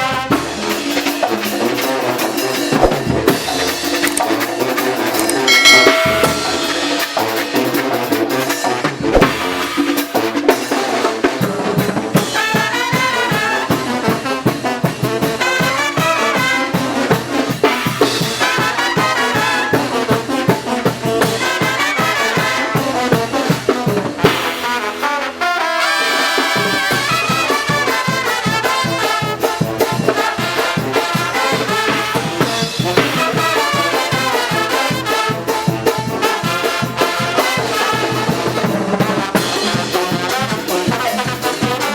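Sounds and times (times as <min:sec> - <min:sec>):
quick steady drum beat: 0:00.0 - 0:25.1, 0:26.8 - 0:41.9
trumpets and trombones: 0:00.0 - 0:41.9.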